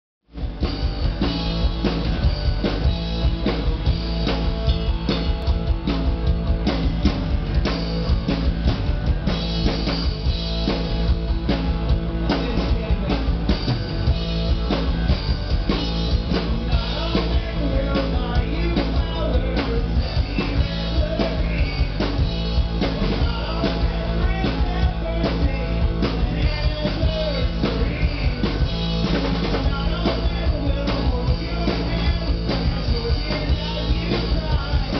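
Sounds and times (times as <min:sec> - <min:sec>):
live rock band playing: 0:00.3 - 0:34.9.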